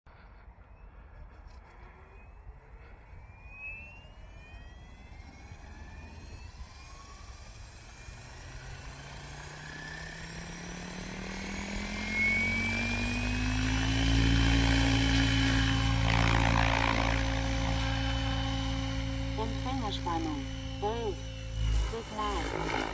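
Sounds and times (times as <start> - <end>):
electric helicopter motor whine: 0.1 - 22.9.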